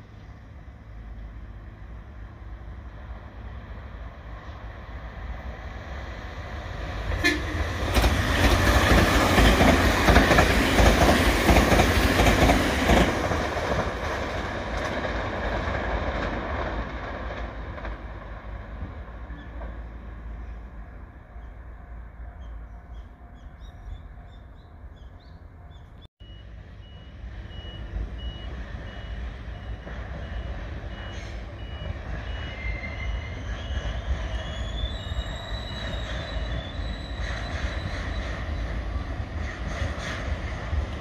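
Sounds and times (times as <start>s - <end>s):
locomotive whine: 0.0s - 39.4s
locomotive running noise: 6.3s - 41.0s.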